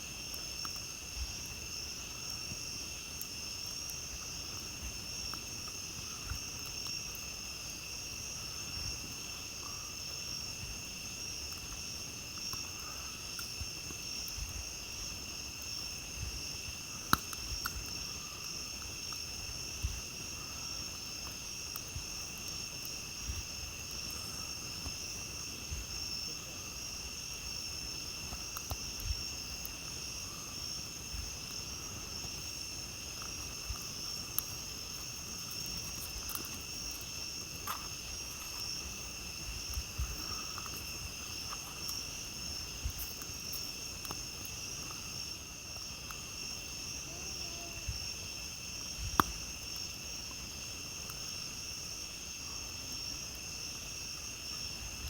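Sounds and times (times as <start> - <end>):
campfire crackling and popping: 0.0 - 55.0
night insects shrilling: 0.2 - 54.8.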